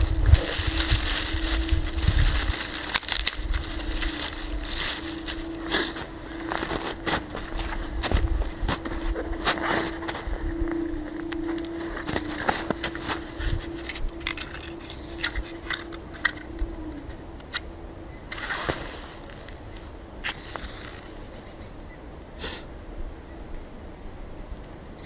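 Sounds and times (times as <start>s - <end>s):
dry twigs crackling and snapping: 0.0s - 21.0s
steady low hum: 0.0s - 25.0s.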